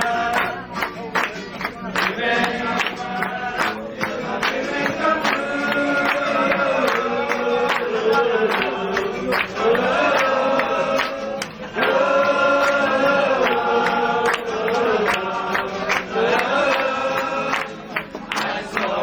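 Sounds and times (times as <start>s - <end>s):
group singing held notes: 0.0s - 0.8s, 1.9s - 19.0s.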